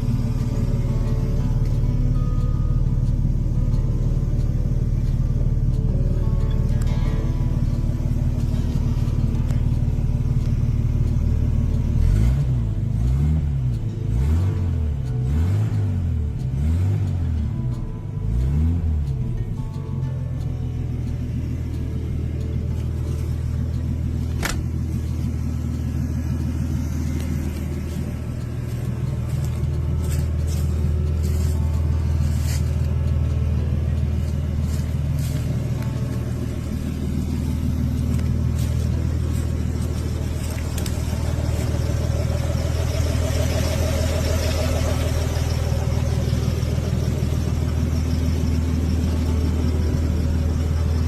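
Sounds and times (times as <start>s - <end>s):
car engine idling and revving: 0.0s - 51.0s.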